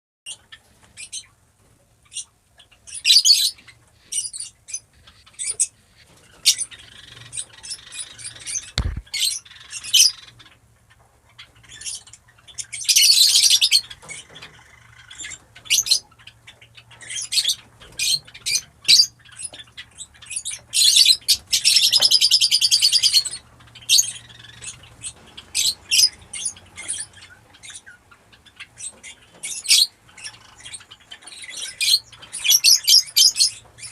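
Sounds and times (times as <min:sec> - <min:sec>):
lovebirds chirping and chattering: 0:00.3 - 0:33.9.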